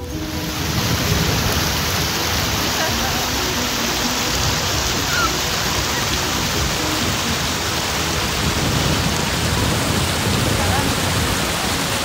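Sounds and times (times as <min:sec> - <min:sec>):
small waves washing onto rocks: 0:00.0 - 0:12.0.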